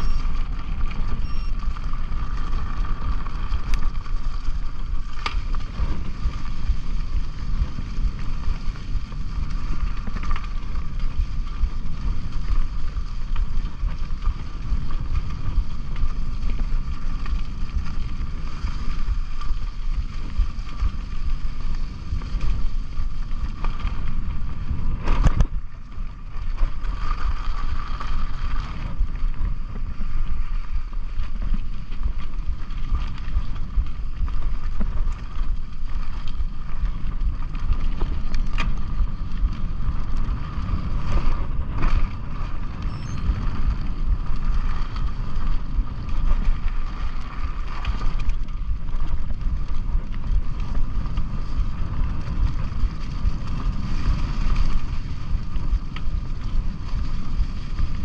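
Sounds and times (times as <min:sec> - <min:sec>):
bike tyres rumbling on dirt: 0:00.0 - 0:58.0
wind rushing over microphone: 0:00.0 - 0:58.0.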